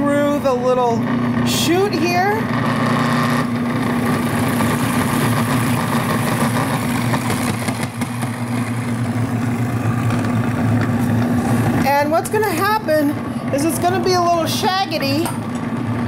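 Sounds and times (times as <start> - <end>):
food processor motor humming: 0.0 - 16.0.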